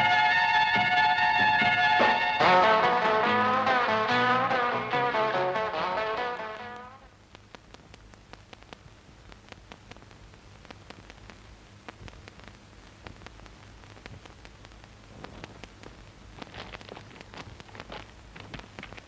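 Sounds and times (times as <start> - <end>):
film soundtrack hiss and hum: 0.0 - 19.0
scattered crackles: 1.6 - 19.0.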